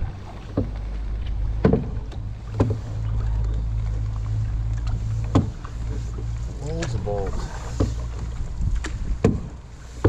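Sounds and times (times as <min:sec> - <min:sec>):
paddle knocks and splashes: 0:00.0 - 0:10.0
wind rumble on microphone: 0:00.0 - 0:10.0.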